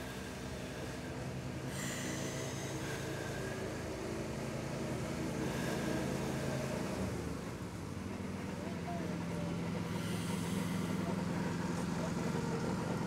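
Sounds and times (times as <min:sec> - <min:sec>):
slow deep breaths: 0:00.0 - 0:08.5, 0:09.2 - 0:13.0
low mechanical hum: 0:00.0 - 0:13.0.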